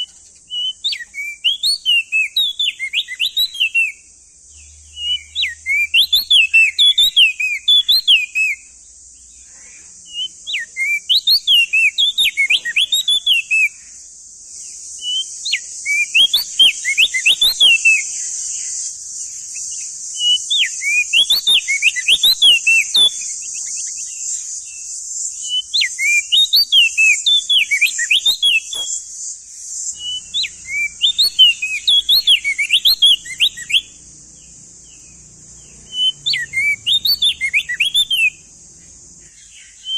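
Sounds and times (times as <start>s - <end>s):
bird singing whistled phrases: 0.0s - 8.8s, 10.1s - 13.9s, 15.0s - 29.2s, 29.8s - 34.0s, 35.6s - 38.5s, 39.3s - 39.9s
steady high hiss: 0.0s - 39.9s.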